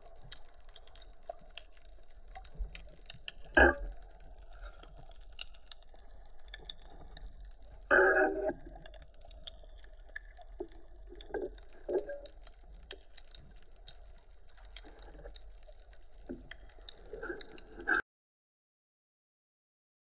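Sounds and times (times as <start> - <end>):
underwater crackle of small clicks: 0.0 - 18.0.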